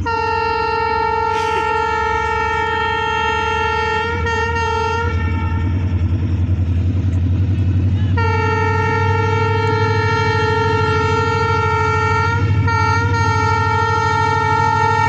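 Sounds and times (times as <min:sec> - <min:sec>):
locomotive horn: 0:00.0 - 0:06.9, 0:07.6 - 0:15.0
locomotive engine rumbling: 0:00.0 - 0:15.0.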